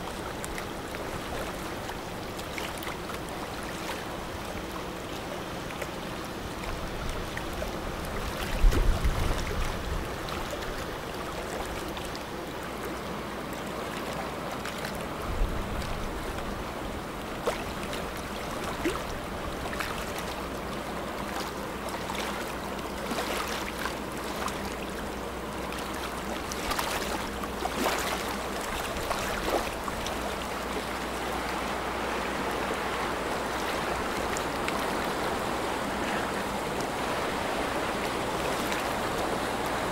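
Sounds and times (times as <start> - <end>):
water rushing and splashing: 0.0 - 39.9.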